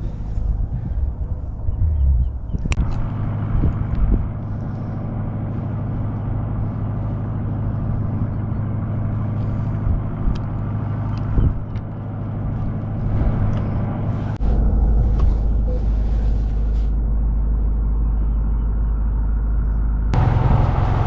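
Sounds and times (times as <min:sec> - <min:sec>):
boat diesel engine running: 0:00.0 - 0:21.0.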